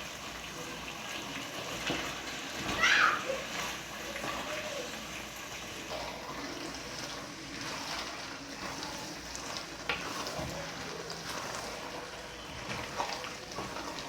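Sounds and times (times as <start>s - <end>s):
pot of sauce simmering: 0.0s - 14.0s.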